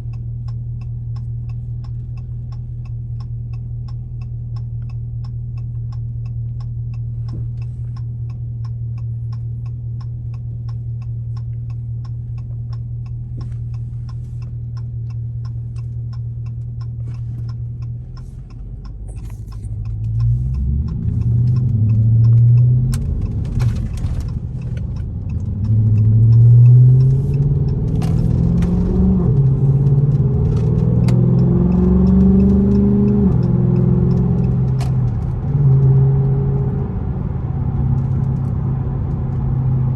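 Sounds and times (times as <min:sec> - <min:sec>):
faint regular ticking: 0:00.0 - 0:36.1
car with loud exhaust: 0:00.0 - 0:39.9.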